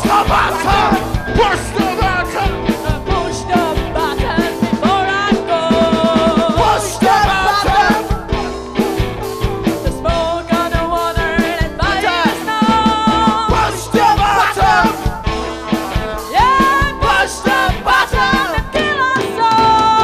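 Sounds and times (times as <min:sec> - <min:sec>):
live rock band playing: 0:00.0 - 0:20.0
steady drum beat: 0:00.0 - 0:20.0.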